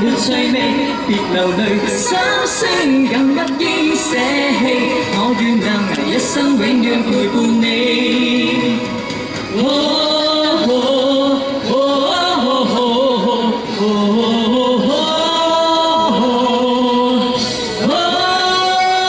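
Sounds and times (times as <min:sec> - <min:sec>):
backing music: 0:00.0 - 0:19.0
man singing into microphone: 0:00.0 - 0:19.0.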